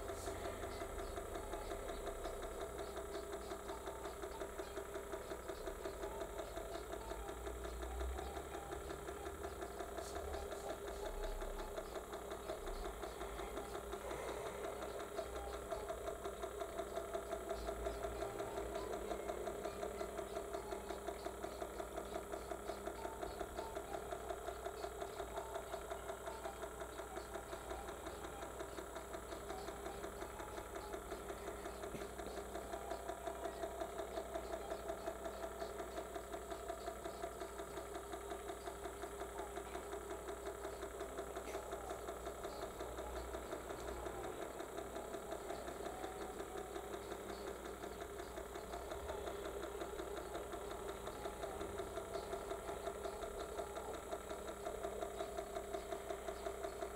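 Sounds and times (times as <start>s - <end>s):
small electric motor running: 0.0s - 56.9s.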